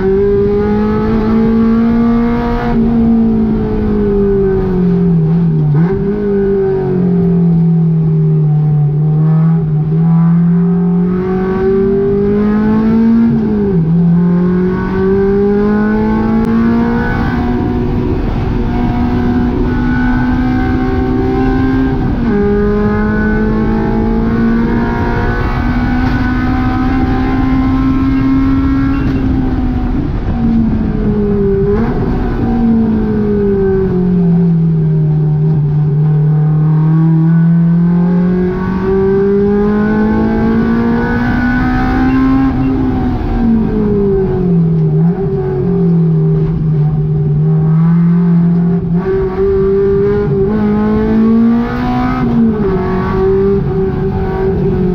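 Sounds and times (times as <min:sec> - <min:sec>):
car engine revving through gears: 0:00.0 - 0:54.9.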